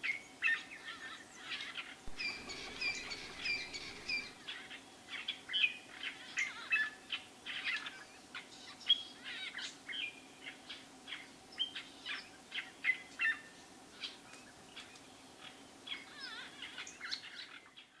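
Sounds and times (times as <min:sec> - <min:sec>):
birds chirping and trilling: 0:00.1 - 0:18.0.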